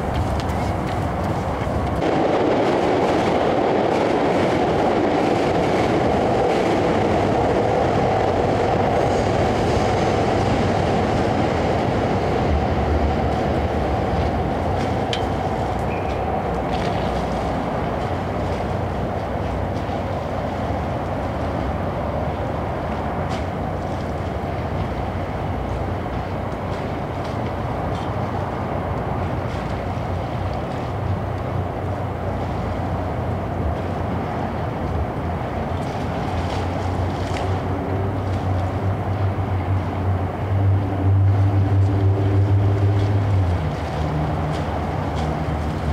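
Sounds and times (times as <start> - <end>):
distant city rumble: 0.0 - 45.9
low engine drone: 0.0 - 45.9.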